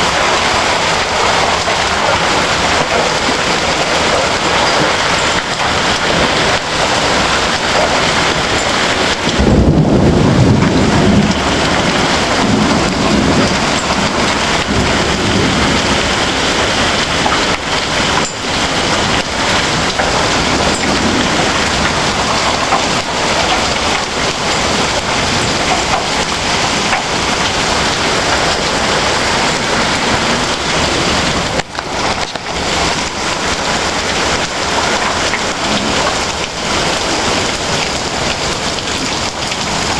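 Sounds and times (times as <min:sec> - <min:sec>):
heavy rain downpour: 0:00.0 - 0:39.9
rolling thunder: 0:00.0 - 0:39.9.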